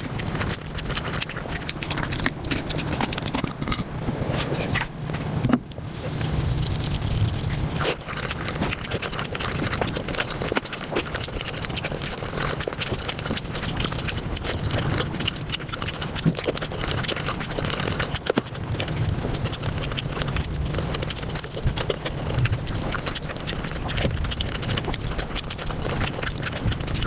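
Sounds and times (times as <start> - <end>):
sped-up chewing sounds: 0.0 - 4.9, 5.7 - 27.0.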